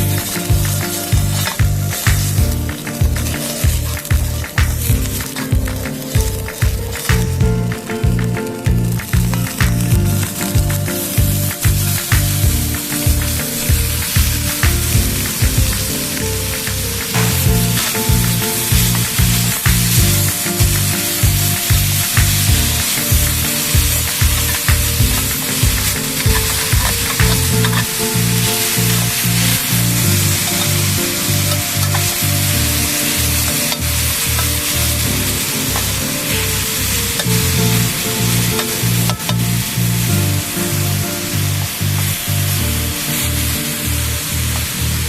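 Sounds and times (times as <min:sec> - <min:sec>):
food sizzling in a pan: 0:00.0 - 0:45.0
soft music with walking bass: 0:00.0 - 0:45.0.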